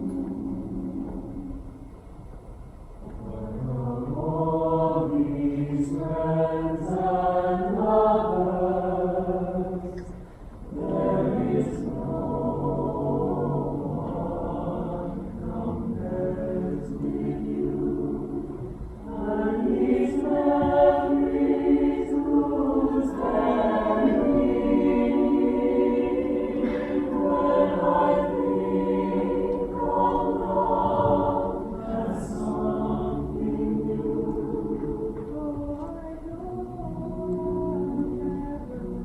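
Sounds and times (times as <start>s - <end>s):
choir singing sustained chords: 0.0s - 39.0s.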